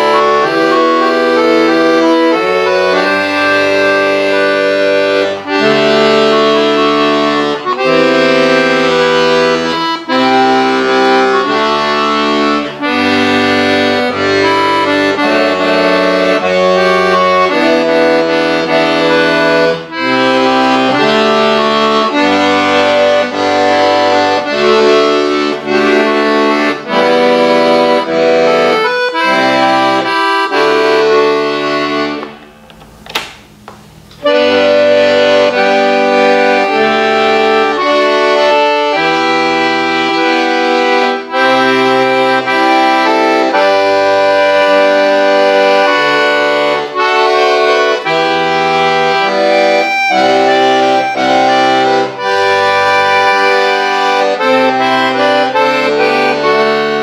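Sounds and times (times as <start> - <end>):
piano accordion playing chords: 0.0 - 57.0.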